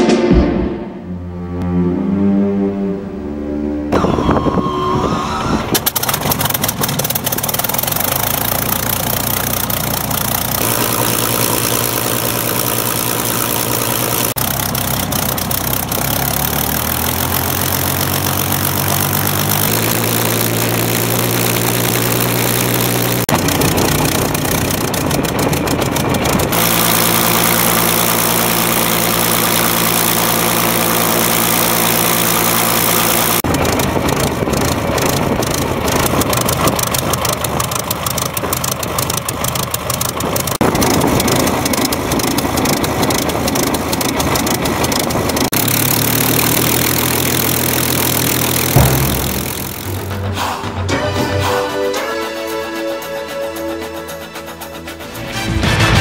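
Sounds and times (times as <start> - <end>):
aircraft piston engine running: 5.4 - 50.9, 51.5 - 55.4.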